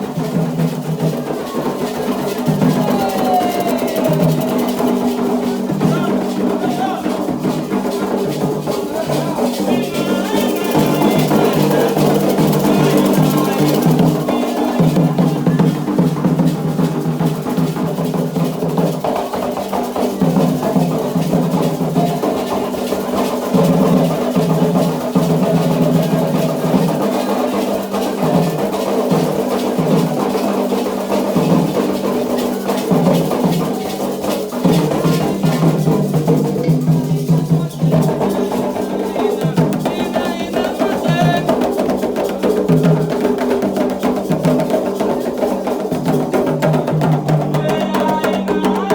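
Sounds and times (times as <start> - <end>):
hand drums beaten fast: 0.0 - 48.9.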